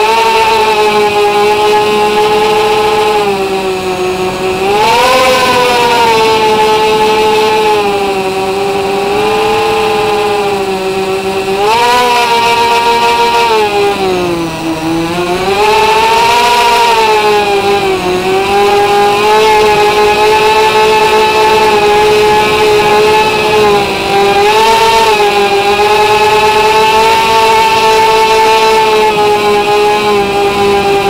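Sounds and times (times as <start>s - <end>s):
drone motors and propellers whining: 0.0s - 31.0s.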